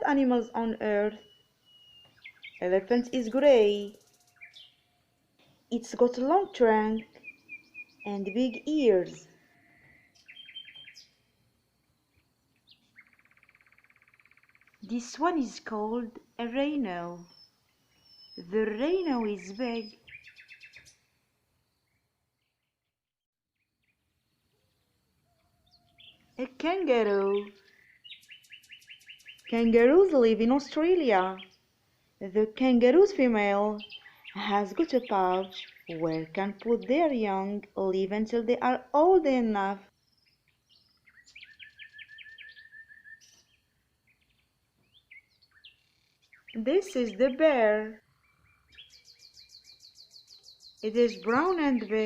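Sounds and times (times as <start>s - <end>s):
faint birds chirping: 0.0s - 23.0s, 23.6s - 52.0s.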